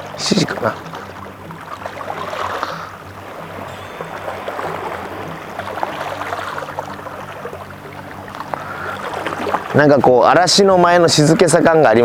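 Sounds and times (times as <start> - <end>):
water drips and clicks: 0.0 - 11.8
faint background music: 0.0 - 12.0
rain and water splashing: 0.0 - 12.0.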